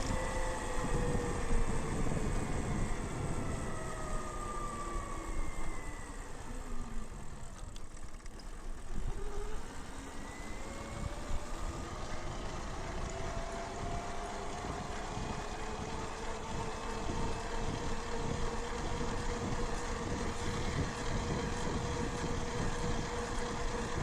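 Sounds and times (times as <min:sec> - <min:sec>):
wind rumble on microphone: 0:00.0 - 0:06.1, 0:08.8 - 0:24.0
electric bike motor whining: 0:00.0 - 0:24.0.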